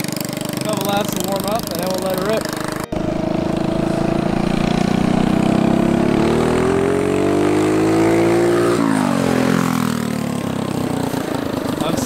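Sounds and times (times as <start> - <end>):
go-kart engine revving: 0.0 - 12.0.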